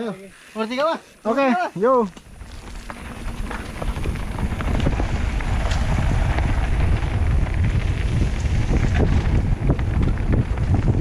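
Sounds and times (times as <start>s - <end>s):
bike clattering over rough ground: 1.8s - 11.0s
wind buffeting microphone: 2.1s - 11.0s.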